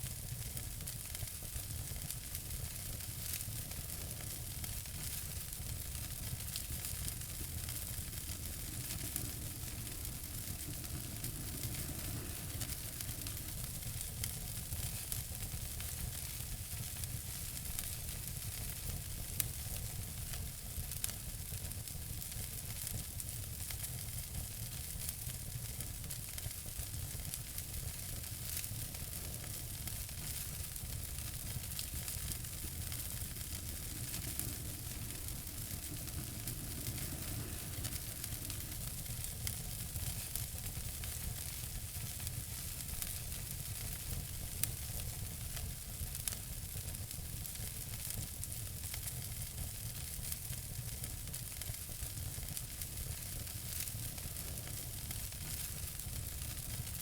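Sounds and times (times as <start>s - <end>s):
fire crackles and pops: 0.0s - 57.0s
wood fire burning: 0.0s - 57.0s.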